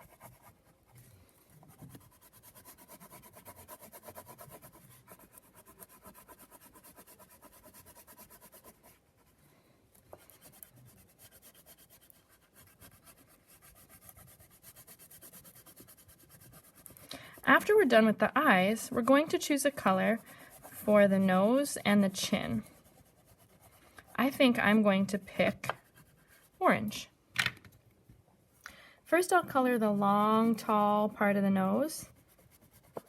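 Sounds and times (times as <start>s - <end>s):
crayon scribbling on paper: 0.0s - 9.3s, 10.1s - 27.0s, 29.1s - 33.0s.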